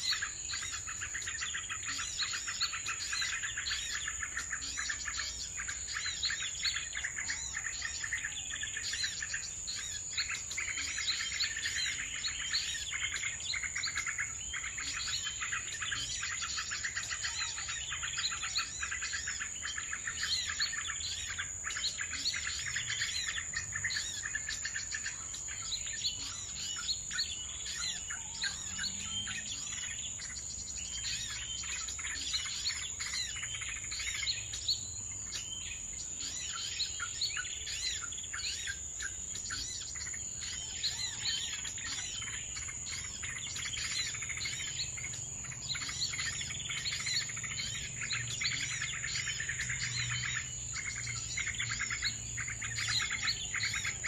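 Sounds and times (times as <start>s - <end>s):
songbirds chirping in chorus: 0.0s - 54.0s.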